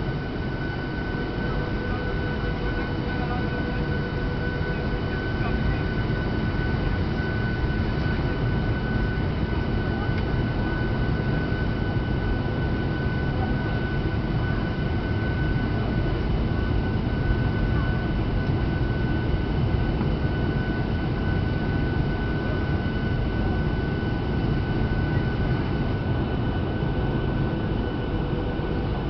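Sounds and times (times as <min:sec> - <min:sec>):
airplane cabin engine hum: 0:00.0 - 0:29.0
thin steady whine: 0:00.0 - 0:29.0.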